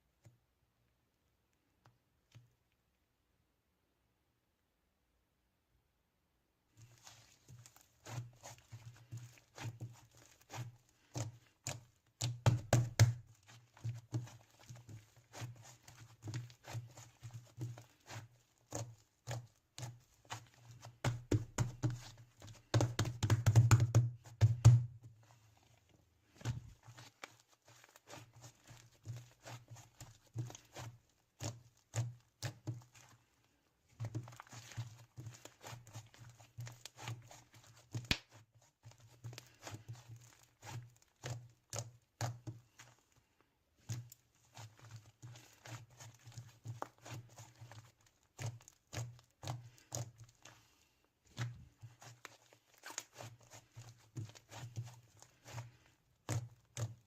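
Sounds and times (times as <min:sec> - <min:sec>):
slime squished by hand: 0:06.8 - 0:43.0, 0:43.8 - 0:57.0.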